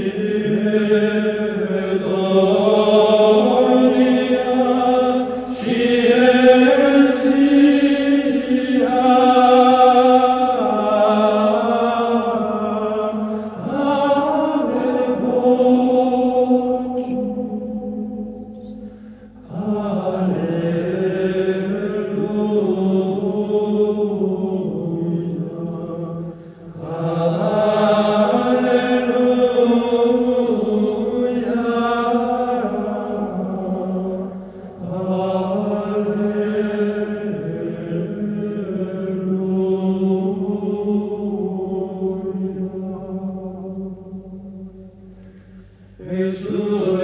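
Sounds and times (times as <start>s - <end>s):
slow vocal chant: 0.0s - 47.0s
steady low tone: 0.0s - 47.0s.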